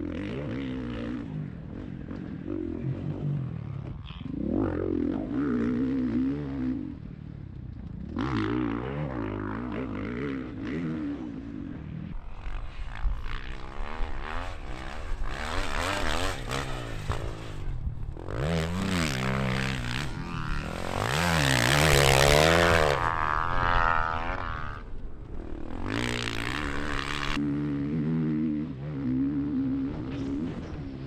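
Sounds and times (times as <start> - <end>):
dirt bike engine revving: 0.0 - 7.2, 8.0 - 31.0.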